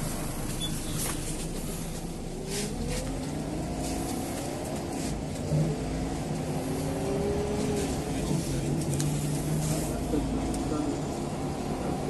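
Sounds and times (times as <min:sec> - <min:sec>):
bus engine rumble and whine: 0:00.0 - 0:12.0.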